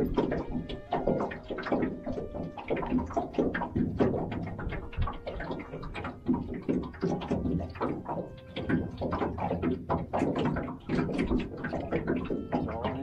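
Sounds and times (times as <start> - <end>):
waves slapping against boat hull: 0.0 - 13.0.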